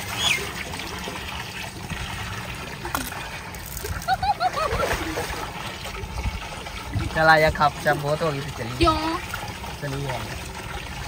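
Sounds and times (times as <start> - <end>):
water pouring into tank: 0.0 - 11.0.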